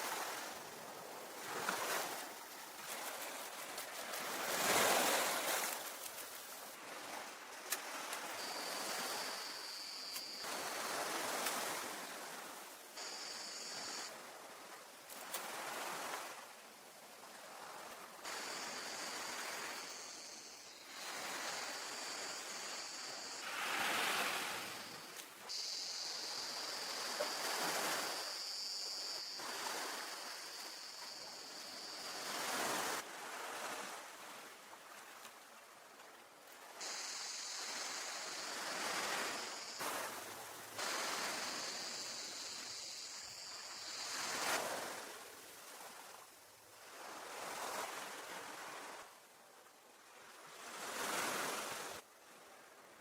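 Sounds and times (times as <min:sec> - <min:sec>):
ocean waves breaking: 0:00.0 - 0:16.5, 0:17.2 - 0:34.5, 0:36.6 - 0:46.2
steady high-pitched hiss: 0:00.0 - 0:53.0.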